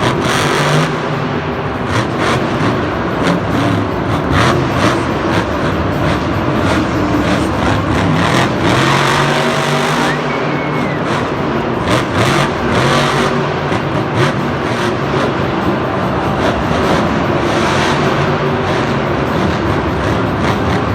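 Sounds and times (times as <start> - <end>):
large vehicle engine revving: 0.0 - 20.9.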